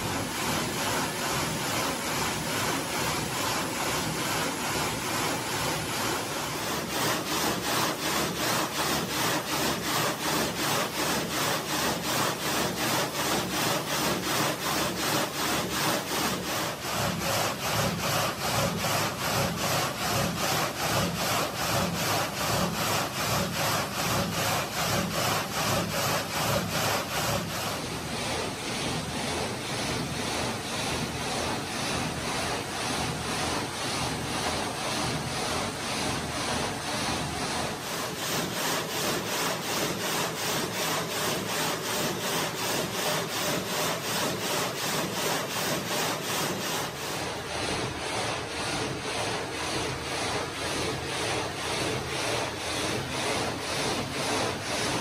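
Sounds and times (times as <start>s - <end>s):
gang saw cutting marble: 0.0s - 27.8s, 37.6s - 55.0s.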